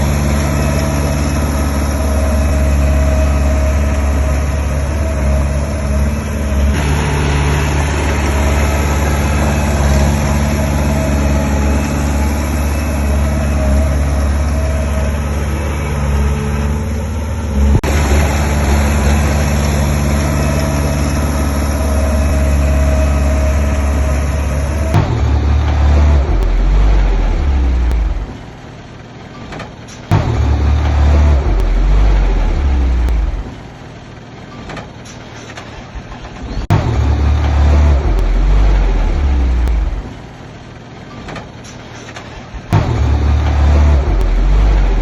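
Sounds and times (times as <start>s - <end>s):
heavy diesel engine working: 0.0s - 45.0s.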